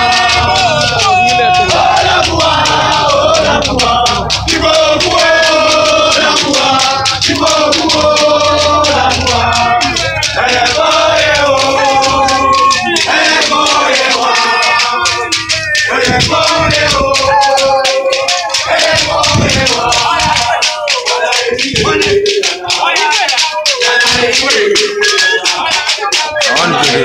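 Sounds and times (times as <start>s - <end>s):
fast rattle percussion: 0.0s - 27.0s
group of voices chanting: 0.0s - 27.0s.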